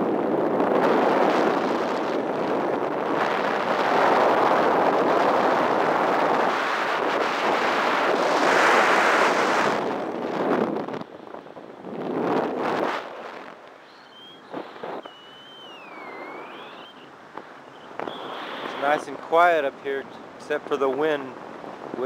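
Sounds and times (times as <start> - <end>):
wind rushing past microphone: 0.0 - 22.0.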